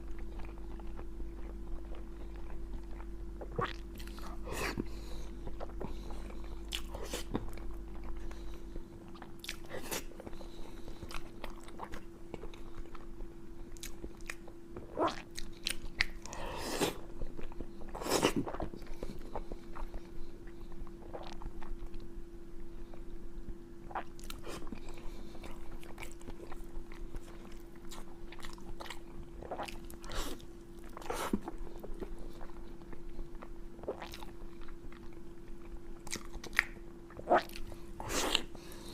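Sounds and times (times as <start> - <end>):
person chewing crunchy food: 0.0 - 22.1, 23.9 - 38.9
faint hum: 0.0 - 38.9.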